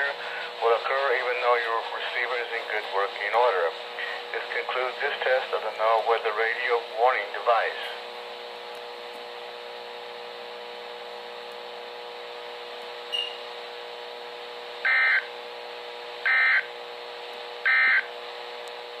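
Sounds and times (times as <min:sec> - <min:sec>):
radio hiss and hum: 0:00.0 - 0:19.0.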